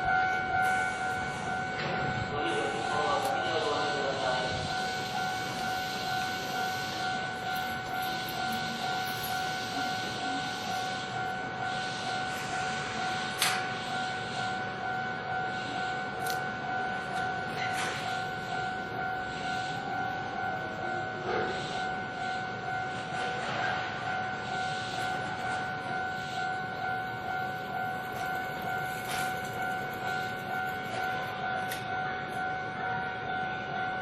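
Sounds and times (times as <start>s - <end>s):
electric train running: 0.0s - 34.0s
level crossing warning bell: 0.0s - 34.0s.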